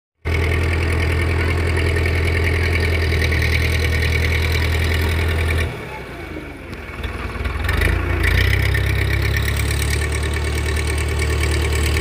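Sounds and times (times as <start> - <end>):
tractor diesel engine running: 0.2 - 12.0.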